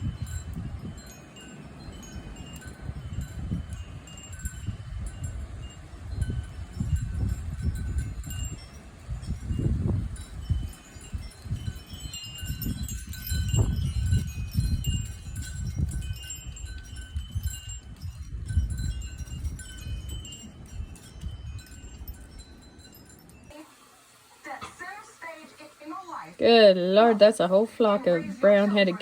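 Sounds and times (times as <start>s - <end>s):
wind rumbling on microphone: 0.0s - 23.5s
wind chimes ringing: 0.0s - 23.7s, 26.4s - 29.0s.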